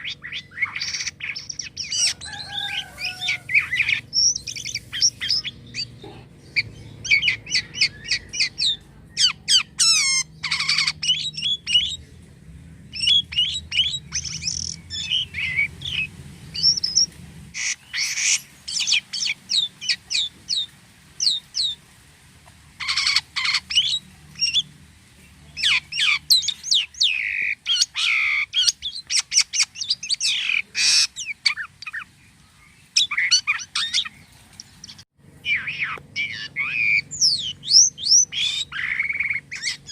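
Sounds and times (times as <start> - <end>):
starling singing: 0.0 - 21.8, 22.8 - 39.9.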